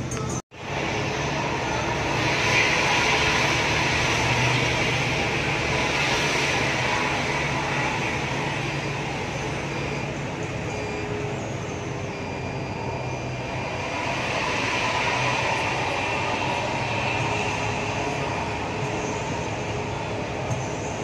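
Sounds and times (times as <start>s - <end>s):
diesel bus engines running: 0.0s - 21.0s.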